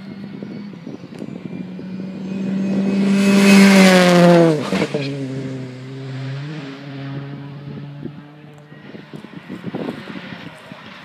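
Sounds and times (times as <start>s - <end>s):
rally car engine passing by: 0.0s - 11.0s.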